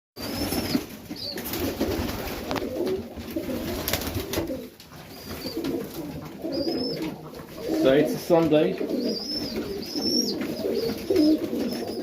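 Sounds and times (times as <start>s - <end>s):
pigeons cooing: 0.2s - 12.0s.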